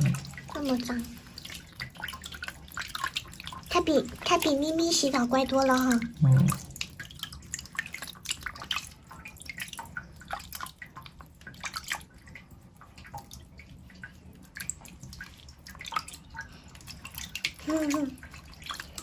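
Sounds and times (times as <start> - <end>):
water splashing and dripping: 0.0 - 19.0.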